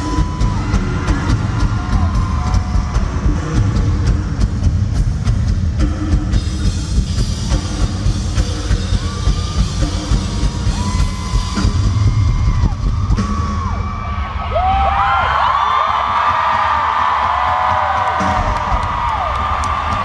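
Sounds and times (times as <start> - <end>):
drum solo: 0.0 - 20.0.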